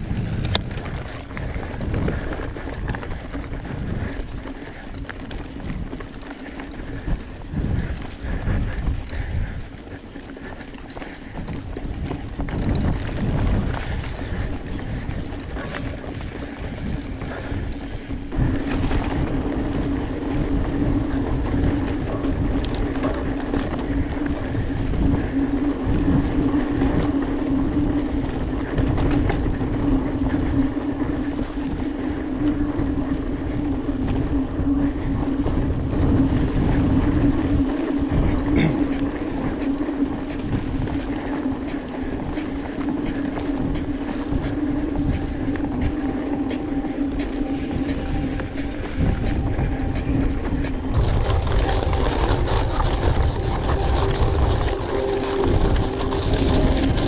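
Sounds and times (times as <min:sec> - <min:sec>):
mid-pitched bike hum: 0:00.0 - 0:57.0
wind rush on microphone: 0:00.0 - 0:57.0.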